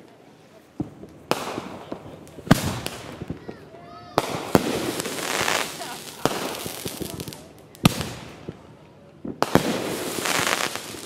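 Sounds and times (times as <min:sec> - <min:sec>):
fireworks crackle: 0:00.0 - 0:11.0.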